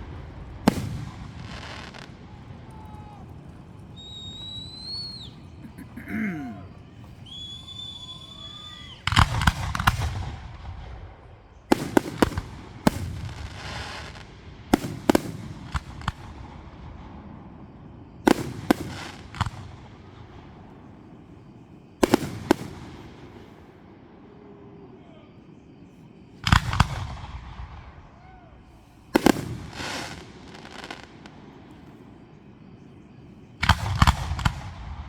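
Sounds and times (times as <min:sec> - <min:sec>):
fireworks bangs: 0:00.0 - 0:25.0, 0:25.7 - 0:35.0
crackling hiss of fireworks: 0:00.0 - 0:35.0.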